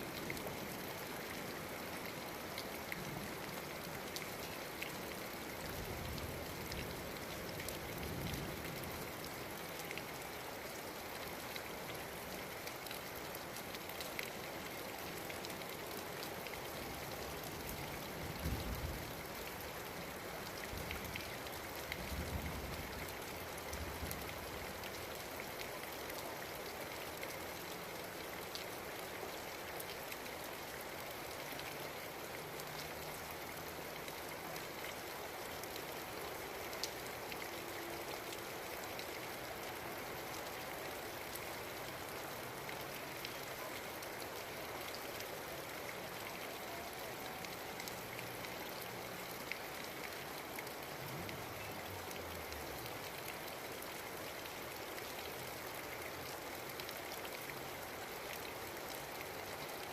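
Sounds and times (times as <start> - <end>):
raindrops ticking on surface: 0.0 - 59.9
steady rain falling: 0.0 - 59.9.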